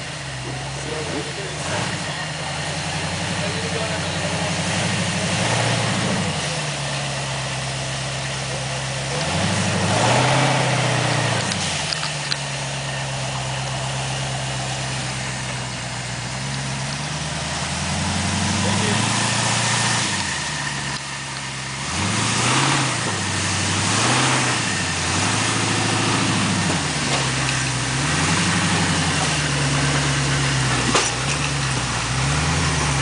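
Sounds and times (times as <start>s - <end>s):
buggy engine idling and revving: 0.0s - 33.0s.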